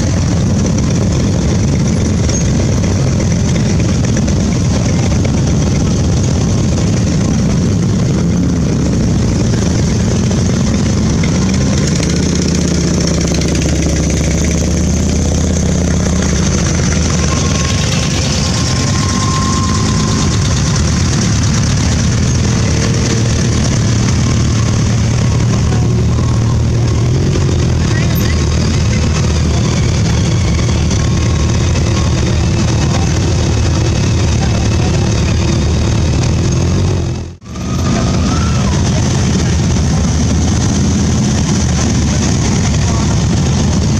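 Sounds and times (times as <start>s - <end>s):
motorcycle engines passing slowly: 0.0s - 43.9s.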